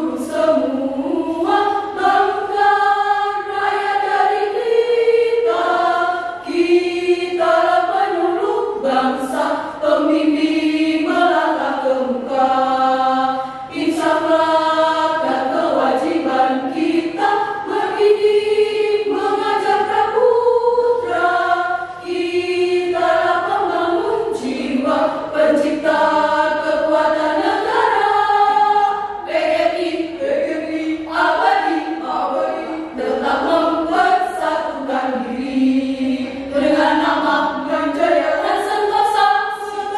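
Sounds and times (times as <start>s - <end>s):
women's choir singing: 0.0s - 39.9s.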